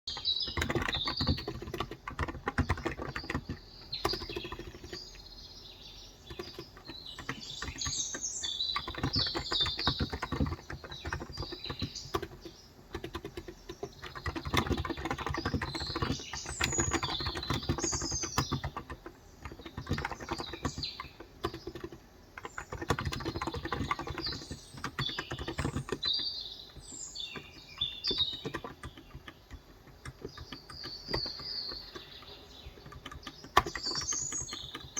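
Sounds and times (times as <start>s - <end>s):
small birds chirping: 0.0s - 34.9s
soft keyboard typing: 0.1s - 34.9s.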